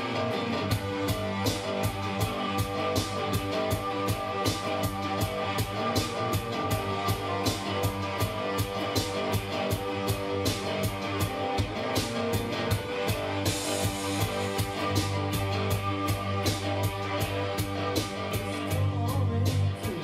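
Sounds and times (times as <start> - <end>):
electro indie rock song: 0.0 - 20.0
steady drum beat: 0.0 - 20.0.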